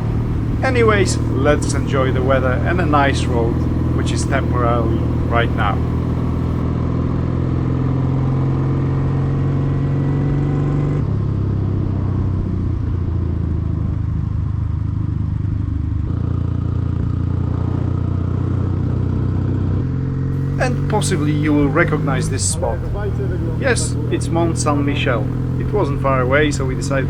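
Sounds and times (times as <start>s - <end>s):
motorcycle engine cruising: 0.0s - 27.0s
road noise: 0.0s - 27.0s.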